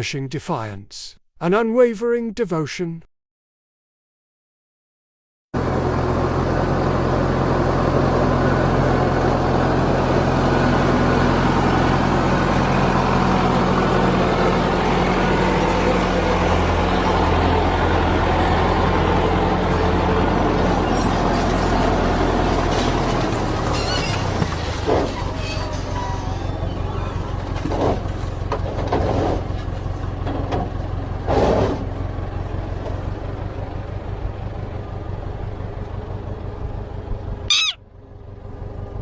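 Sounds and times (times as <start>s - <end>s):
vehicle engine running: 5.6s - 24.9s, 25.7s - 39.0s.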